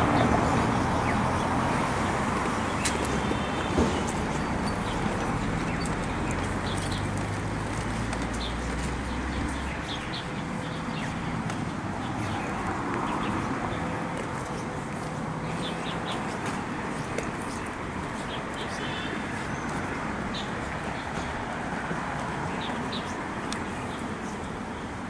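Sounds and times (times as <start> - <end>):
small birds chirping: 2.6 - 21.5, 22.2 - 24.9.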